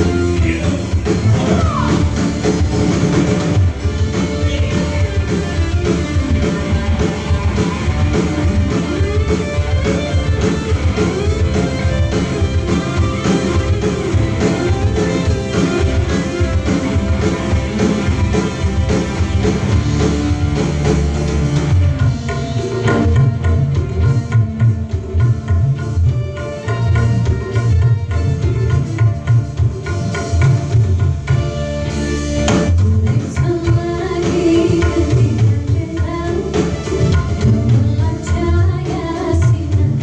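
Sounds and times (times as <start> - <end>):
dangdut music over pa system: 0.0 - 40.0.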